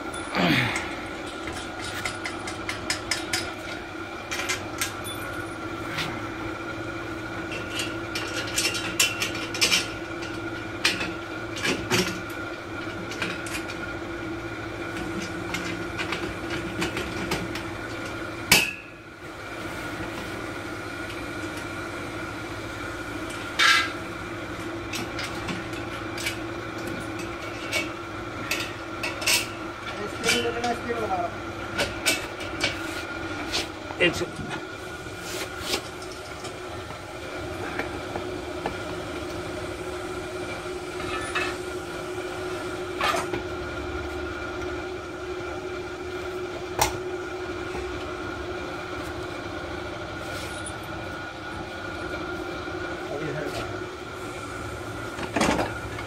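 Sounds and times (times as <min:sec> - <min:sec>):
background hum: 0:00.0 - 0:56.0.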